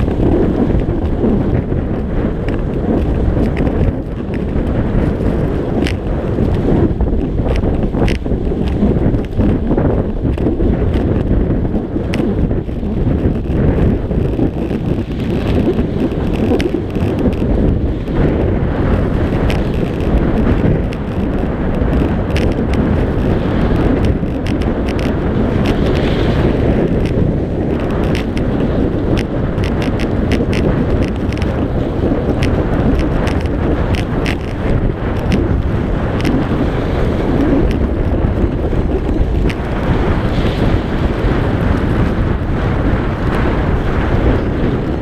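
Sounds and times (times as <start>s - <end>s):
skis scraping on snow: 0.0s - 45.0s
wind on microphone: 0.0s - 45.0s.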